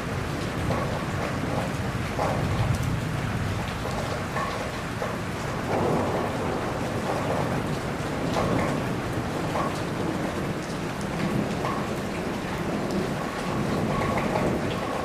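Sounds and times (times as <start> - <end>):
rain pattering on surfaces: 0.0 - 15.0
low thunder rumble: 0.1 - 15.0.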